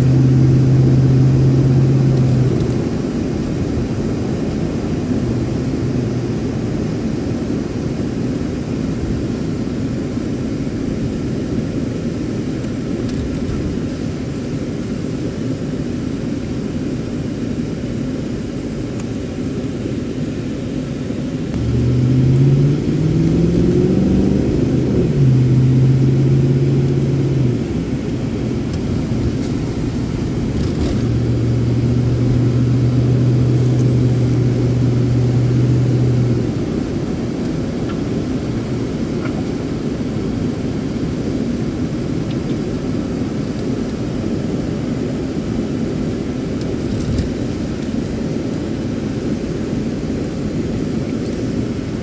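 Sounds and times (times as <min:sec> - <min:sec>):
car engine from inside cabin: 0:00.0 - 0:52.0.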